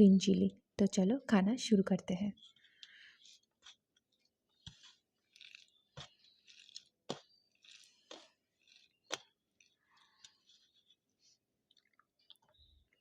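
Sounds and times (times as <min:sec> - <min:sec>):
person chewing food: 0:02.4 - 0:13.0.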